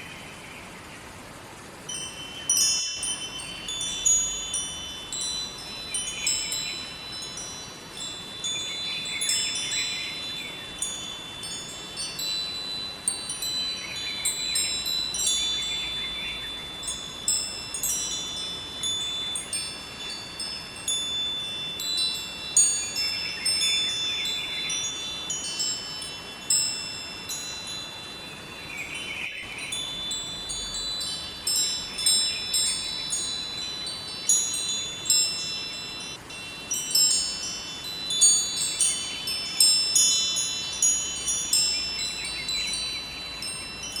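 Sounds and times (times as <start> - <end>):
flowing river: 0.0 - 44.0
wind chimes ringing: 1.7 - 44.0.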